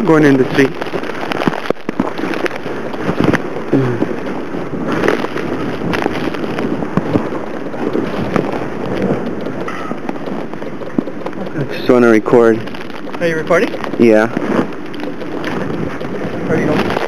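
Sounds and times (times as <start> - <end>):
wind blowing over microphone: 0.0 - 17.0.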